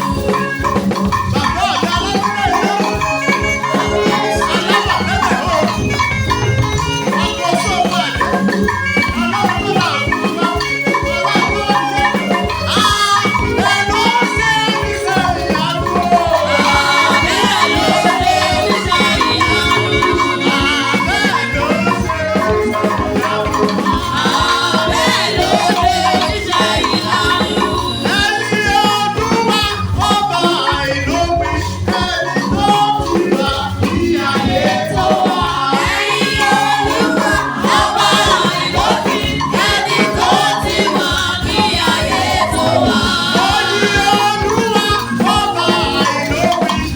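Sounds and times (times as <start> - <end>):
steady percussion beat: 0.0 - 46.9
voices singing: 0.0 - 46.9.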